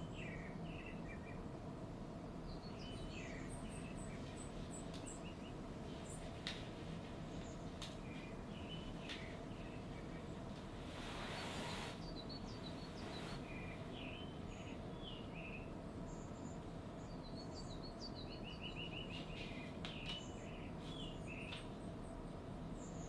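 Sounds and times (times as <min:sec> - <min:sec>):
small birds chirping: 0:00.0 - 0:01.5, 0:02.1 - 0:23.0
low background hum: 0:00.0 - 0:23.0
soft rush of noise: 0:00.0 - 0:23.0.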